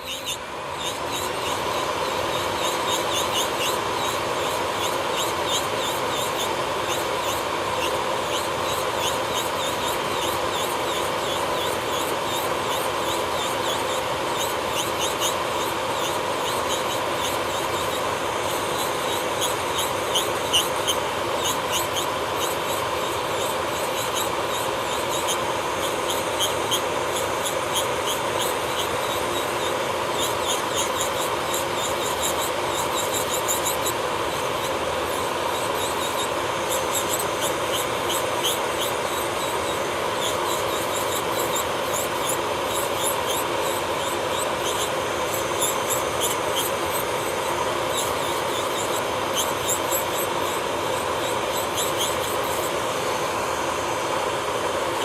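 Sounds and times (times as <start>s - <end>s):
electric nail drill grinding: 0.0s - 55.0s.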